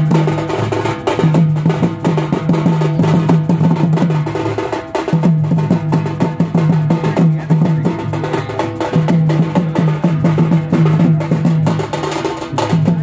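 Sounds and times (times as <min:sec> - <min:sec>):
music with rhythmic drum beat: 0:00.0 - 0:13.0.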